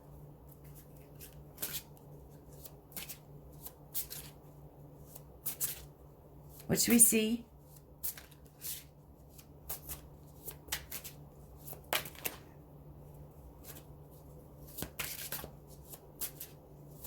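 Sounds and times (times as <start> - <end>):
cards being shuffled: 0.4 - 7.0, 7.7 - 12.5, 13.5 - 17.0.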